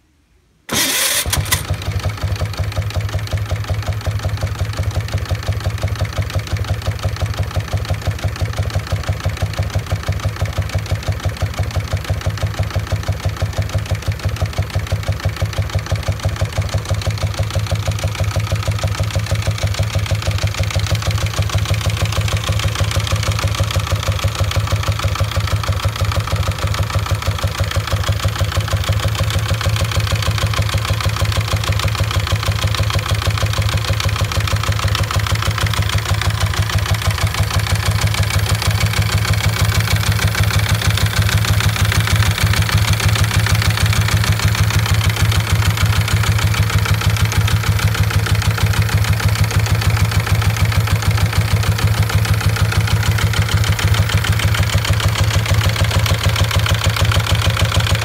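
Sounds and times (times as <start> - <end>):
engine starting and idling: 0.7 - 58.0.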